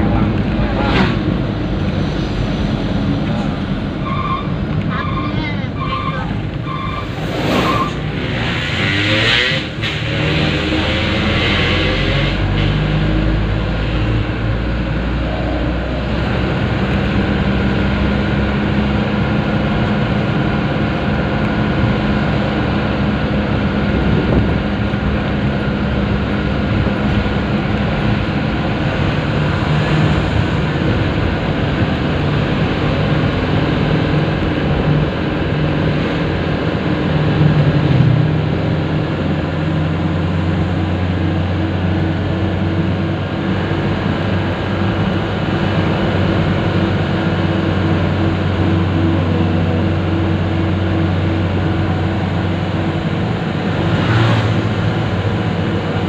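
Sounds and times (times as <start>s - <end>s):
truck engine running: 0.0s - 8.7s, 12.4s - 56.0s
road noise: 0.0s - 56.0s.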